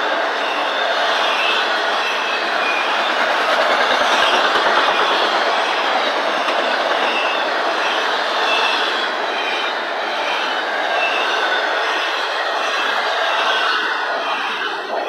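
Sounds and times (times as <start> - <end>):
train wheels rolling on rails: 0.0 - 15.0
faint high wheel squeal: 0.1 - 15.0.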